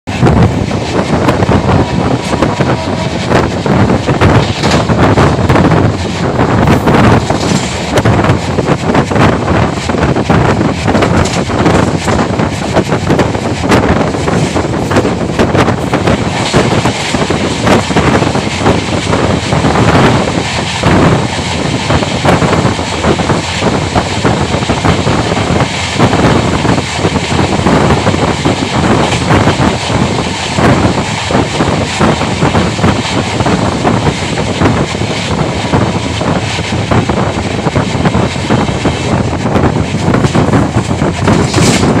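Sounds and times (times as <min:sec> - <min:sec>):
freight train passing: 0:00.0 - 0:42.0
rushing wind: 0:00.0 - 0:42.0
wheels clattering on rail: 0:00.1 - 0:42.0.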